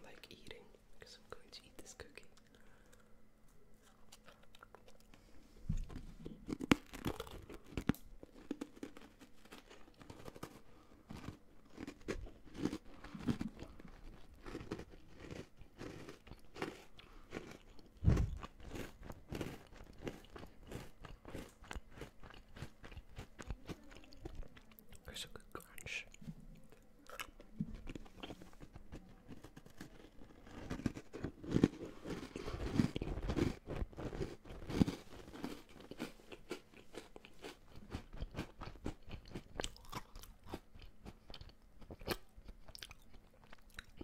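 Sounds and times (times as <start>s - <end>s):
biscuit crunching and chewing: 2.3s - 44.0s.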